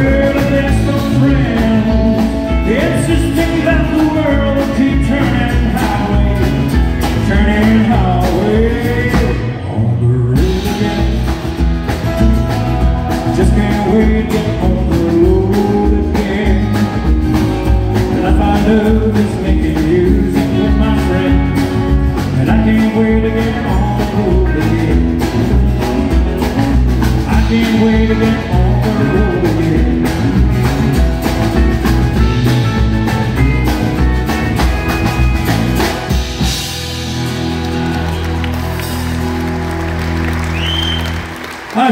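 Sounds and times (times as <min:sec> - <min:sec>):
drum kit beat: 0:00.0 - 0:09.5, 0:10.4 - 0:41.9
man singing: 0:00.0 - 0:31.0, 0:31.8 - 0:34.7, 0:41.7 - 0:41.9
acoustic and electric guitars: 0:00.0 - 0:41.9
bass guitar: 0:00.0 - 0:41.9.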